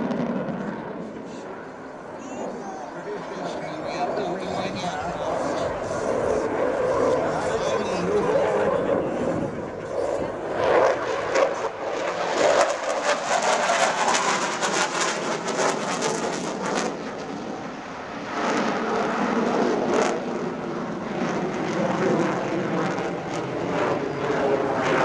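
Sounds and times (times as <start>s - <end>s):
jet flying overhead: 0.0s - 25.0s.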